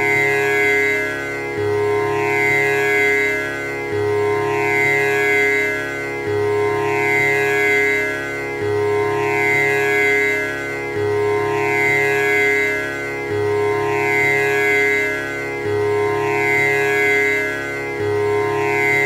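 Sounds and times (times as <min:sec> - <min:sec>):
tanpura drone: 0:00.0 - 0:19.0.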